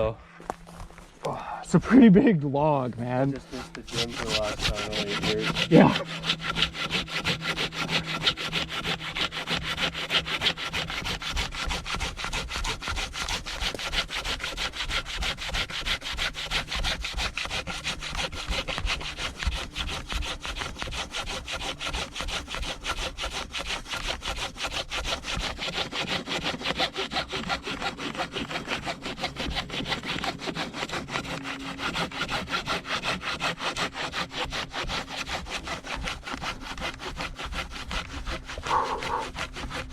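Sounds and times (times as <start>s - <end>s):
hand saw rasping through wood: 1.9s - 39.9s.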